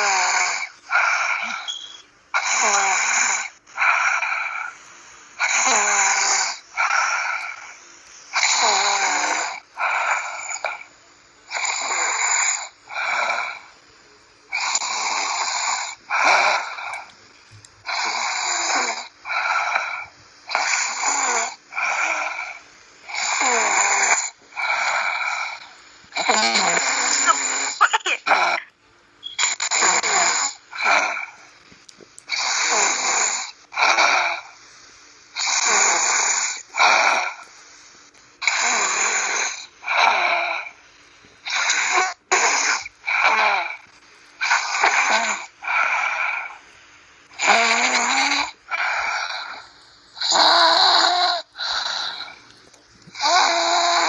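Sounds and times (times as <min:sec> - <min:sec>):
person snoring: 0:00.0 - 0:10.9, 0:11.5 - 0:13.7, 0:14.5 - 0:17.1, 0:17.8 - 0:28.7, 0:29.4 - 0:31.5, 0:32.3 - 0:37.8, 0:38.4 - 0:40.8, 0:41.4 - 0:46.6, 0:47.3 - 0:54.0.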